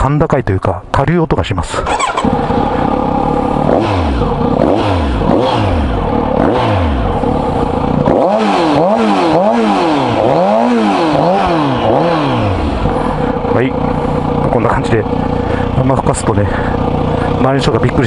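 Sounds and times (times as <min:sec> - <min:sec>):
motorcycle engine revving: 0:01.7 - 0:18.0.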